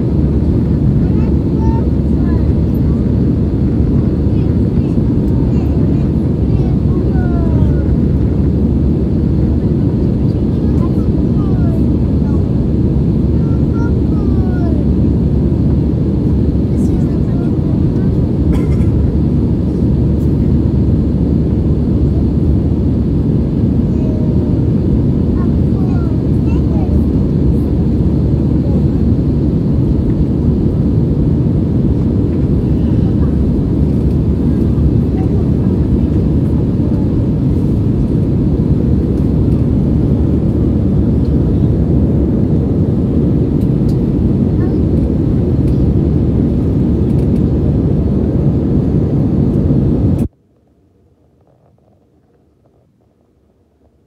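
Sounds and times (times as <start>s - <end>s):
jet airliner cabin rumble: 0.0s - 54.0s.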